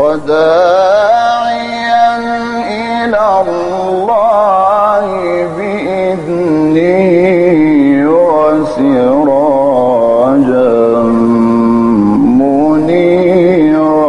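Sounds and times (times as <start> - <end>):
man chanting melodic recitation: 0.0 - 14.0.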